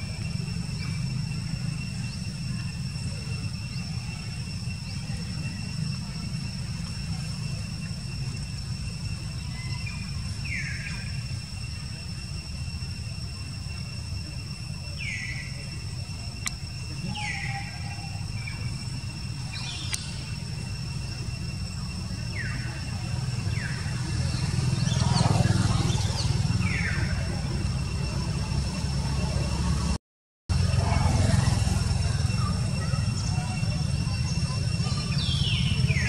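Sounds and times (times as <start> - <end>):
faint high whine: 0.0 - 36.0.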